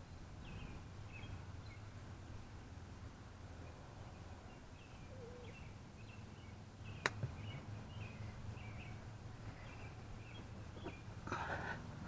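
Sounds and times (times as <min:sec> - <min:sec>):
birds chirping faintly: 0:00.0 - 0:02.9, 0:03.5 - 0:12.0
low steady outdoor hum: 0:00.0 - 0:12.0.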